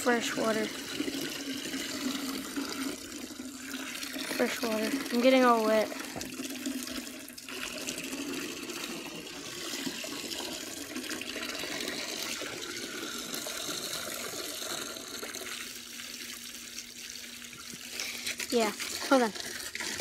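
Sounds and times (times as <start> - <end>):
tap water running into container: 0.0 - 20.0.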